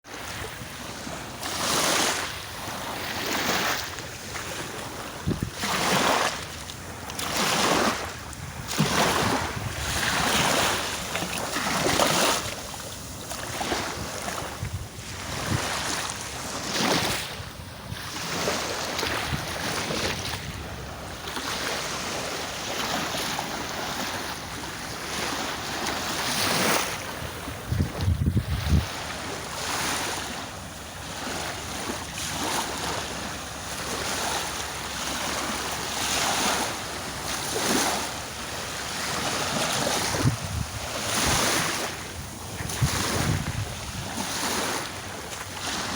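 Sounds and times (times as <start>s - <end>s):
sea waves breaking: 0.0s - 45.9s
wind buffeting microphone: 0.3s - 33.3s, 37.2s - 45.9s.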